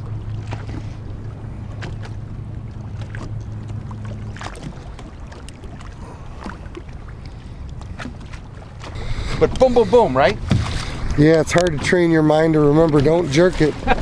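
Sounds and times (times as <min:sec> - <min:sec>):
trolling motor hum: 0:00.0 - 0:14.0
water slapping against hull: 0:00.0 - 0:14.0.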